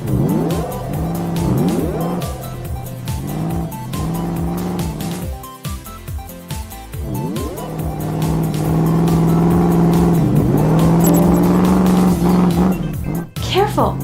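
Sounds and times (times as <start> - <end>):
cartoon truck engines revving: 0.0 - 5.6, 6.7 - 13.8.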